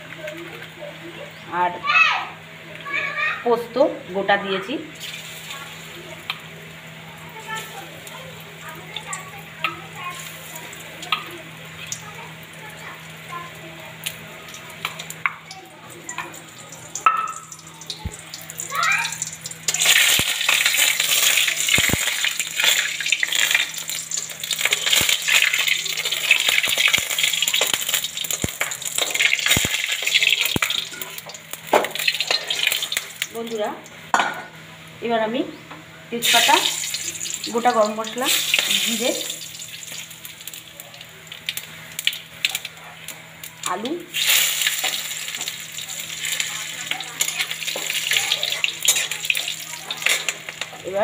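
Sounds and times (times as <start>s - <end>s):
batter frying in hot oil: 0.0s - 35.2s, 36.1s - 51.0s.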